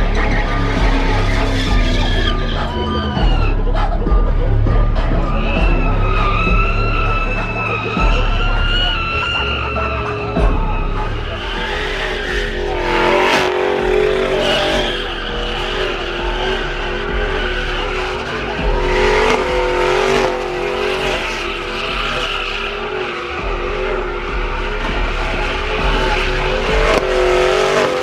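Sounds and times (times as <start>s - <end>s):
tyres squealing: 0.0s - 28.0s
vehicle engine running: 0.0s - 28.0s.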